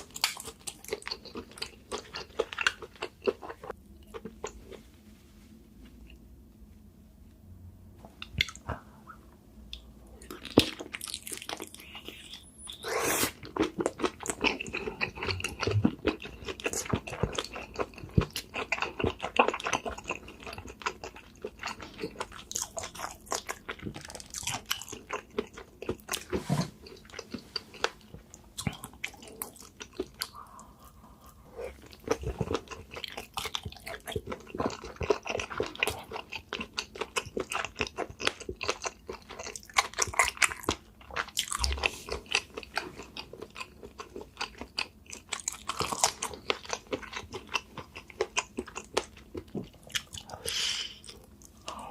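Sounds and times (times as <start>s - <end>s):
person chewing food: 0.0s - 4.9s, 8.1s - 51.9s.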